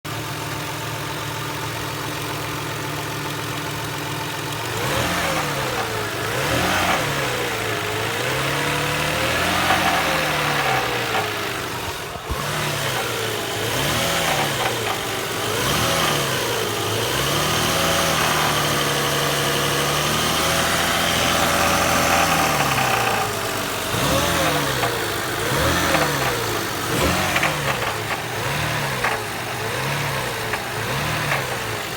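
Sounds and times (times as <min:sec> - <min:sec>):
car engine idling and revving: 0:00.1 - 0:31.9
engine knocking: 0:00.1 - 0:31.9.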